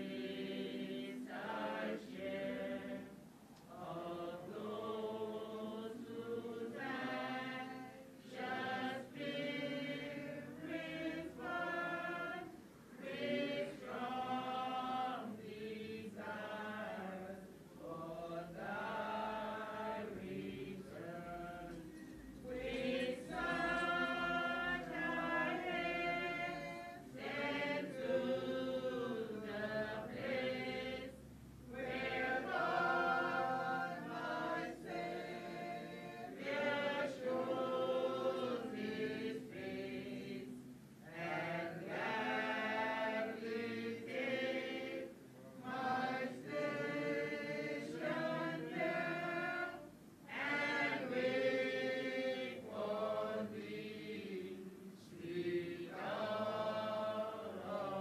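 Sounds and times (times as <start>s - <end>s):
unaccompanied choir singing: 0.0s - 58.0s.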